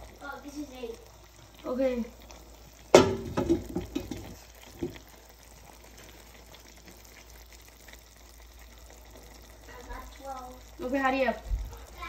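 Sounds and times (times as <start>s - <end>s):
pot simmering with soft bubbling: 0.0s - 12.0s.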